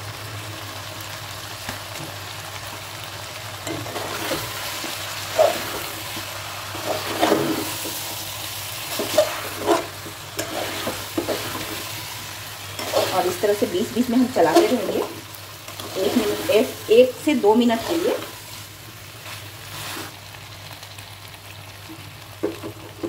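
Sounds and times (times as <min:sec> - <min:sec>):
food frying hiss: 0:00.0 - 0:23.0.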